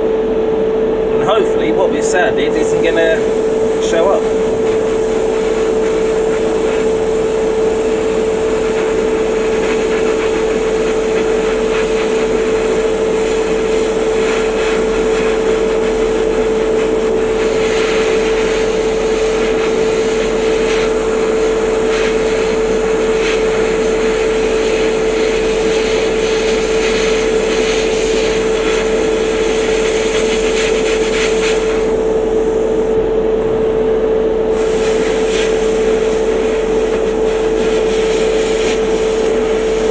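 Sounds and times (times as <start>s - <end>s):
compressor humming: 0.0s - 39.9s
airbrush spraying hiss: 2.5s - 33.0s, 34.5s - 39.9s.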